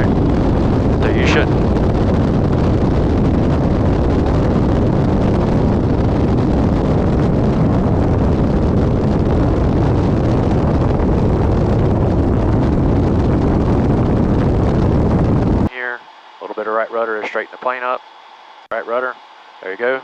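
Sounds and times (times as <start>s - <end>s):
light aircraft engine and propeller: 0.0s - 20.0s
rushing airflow: 0.0s - 20.0s.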